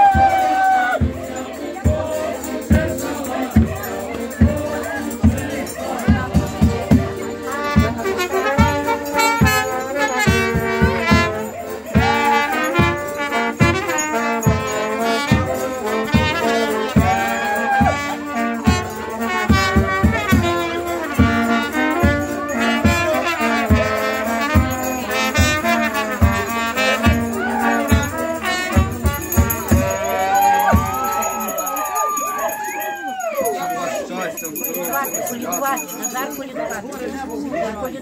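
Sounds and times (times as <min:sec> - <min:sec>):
brass band playing: 0:00.0 - 0:32.2.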